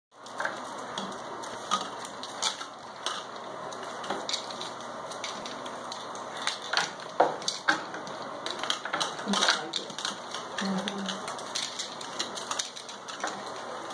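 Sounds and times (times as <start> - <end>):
puppies chewing plastic toys: 0.1 - 13.9
plastic crinkling: 0.2 - 13.9.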